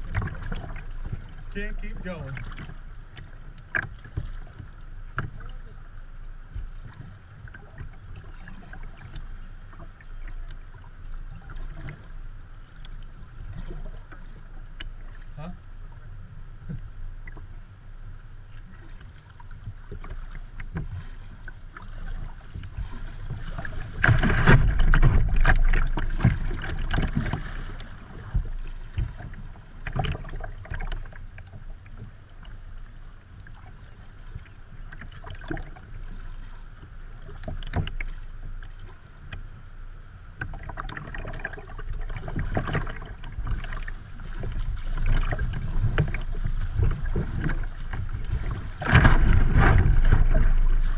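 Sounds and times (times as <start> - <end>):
paddle strokes splashing: 0.0 - 39.7, 40.3 - 50.9
water lapping against hull: 0.0 - 50.9.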